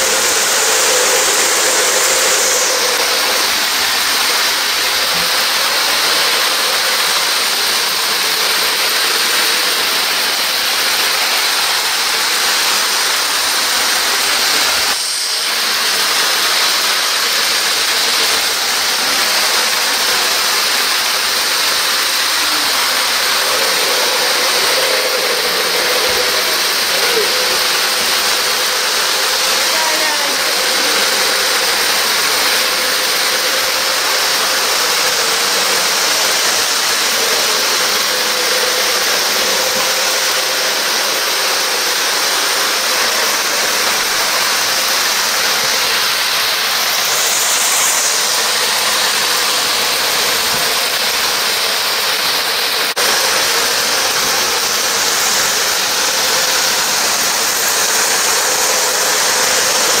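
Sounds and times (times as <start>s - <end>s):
model train wheels on rails: 0.0s - 60.0s.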